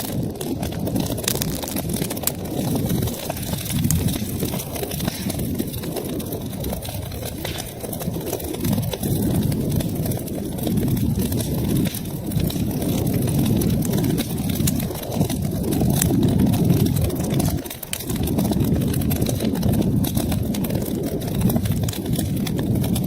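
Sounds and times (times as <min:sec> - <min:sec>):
fire crackling and popping: 0:00.0 - 0:23.0
fire rumbling: 0:00.0 - 0:23.0.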